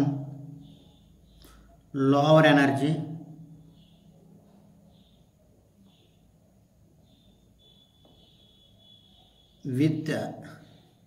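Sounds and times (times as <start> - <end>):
soft high-pitched chirps: 0.0 - 11.0.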